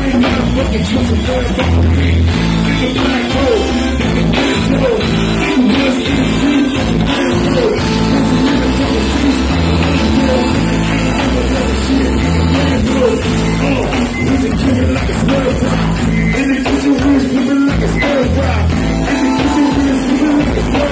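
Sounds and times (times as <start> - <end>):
live rock band playing: 0.0 - 20.9
person singing: 0.0 - 20.9.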